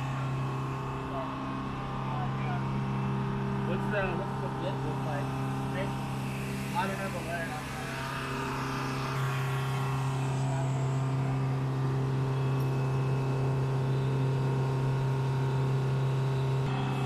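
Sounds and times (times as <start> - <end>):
machine droning hum: 0.0 - 17.0.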